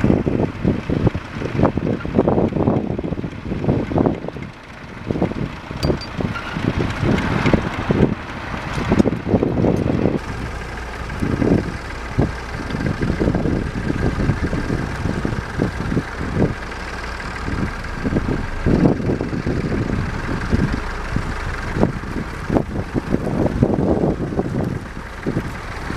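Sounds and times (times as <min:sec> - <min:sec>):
tractor engines running: 0:00.0 - 0:25.9
wind buffeting microphone: 0:00.0 - 0:25.9.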